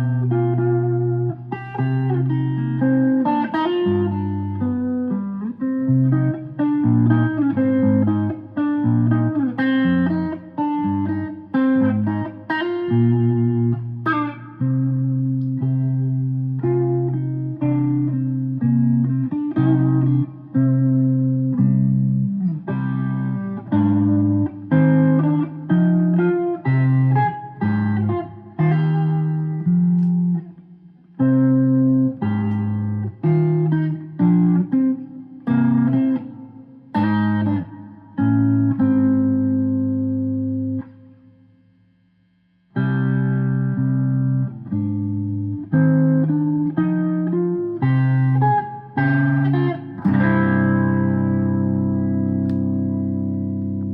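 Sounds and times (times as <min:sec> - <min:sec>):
picked guitar melody: 0:00.0 - 0:41.4, 0:42.7 - 0:53.9.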